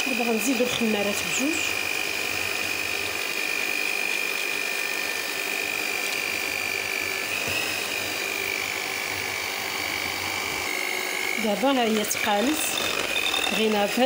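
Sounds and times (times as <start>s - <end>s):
electric hand mixer whirring: 0.0s - 14.0s.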